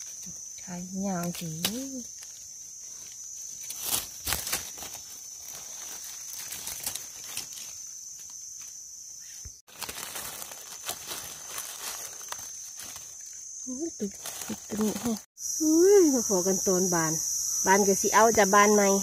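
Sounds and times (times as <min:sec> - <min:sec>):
dry leaves rustling and crinkling: 0:00.0 - 0:15.3
high-pitched insect drone: 0:00.0 - 0:19.0.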